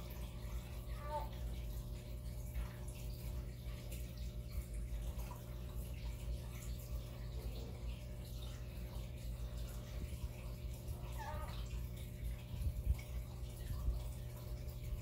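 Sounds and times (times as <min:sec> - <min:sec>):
aquarium filter humming: 0:00.0 - 0:15.0
water trickling and dripping: 0:00.0 - 0:15.0.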